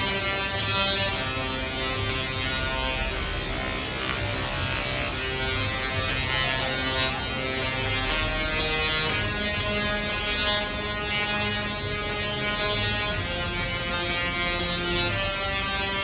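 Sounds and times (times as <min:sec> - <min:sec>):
linear motor launch track buzzing: 0:00.0 - 0:16.0.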